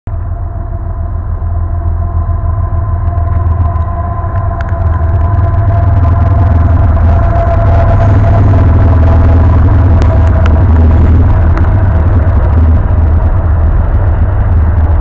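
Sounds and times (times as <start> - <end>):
heavy locomotive engine rumble: 0.1 - 15.0
steady whine: 0.1 - 15.0.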